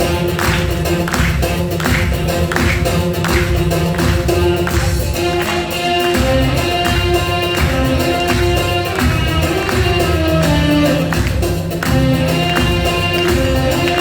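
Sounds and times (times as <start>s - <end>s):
ensemble music with held notes: 0.0s - 14.0s
hand percussion: 0.0s - 14.0s.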